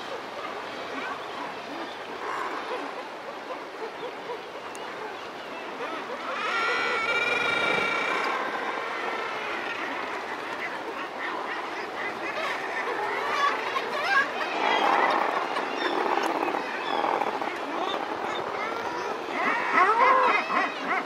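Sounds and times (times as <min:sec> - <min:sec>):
seabirds chattering: 0:01.0 - 0:21.0.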